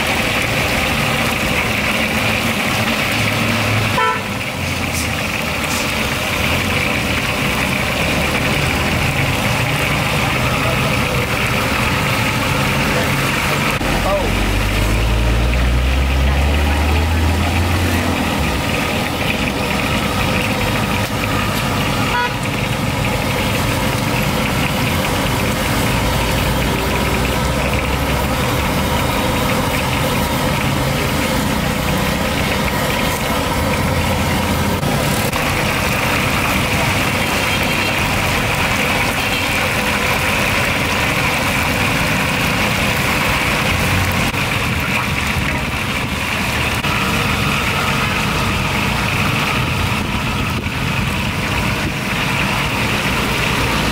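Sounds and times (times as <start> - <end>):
motorbike and car engines: 0.0 - 53.9.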